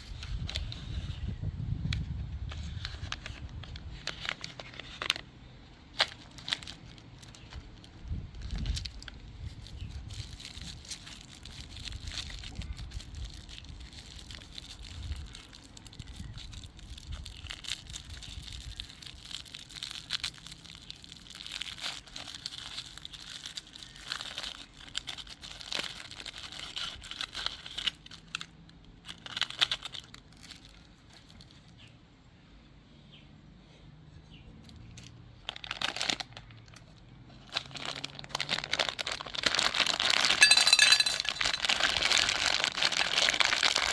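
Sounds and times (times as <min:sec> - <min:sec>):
plastic wrapper crinkling: 0:02.5 - 0:31.8, 0:35.4 - 0:43.9.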